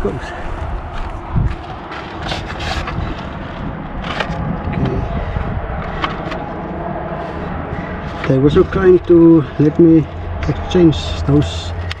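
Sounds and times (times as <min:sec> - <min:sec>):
steady low rumble: 0:00.0 - 0:12.0
wiper blade scraping and clicking: 0:01.6 - 0:12.0.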